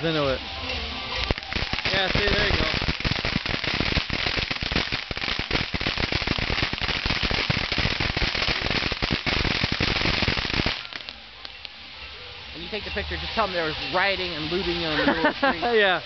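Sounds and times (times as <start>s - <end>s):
firework fountain hissing and crackling: 0.0s - 16.0s.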